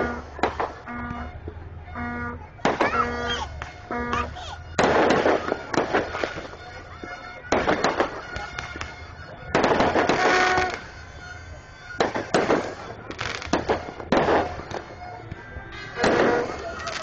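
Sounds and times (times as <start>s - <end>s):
fireworks bangs and cracks: 0.0s - 1.6s, 2.6s - 17.0s.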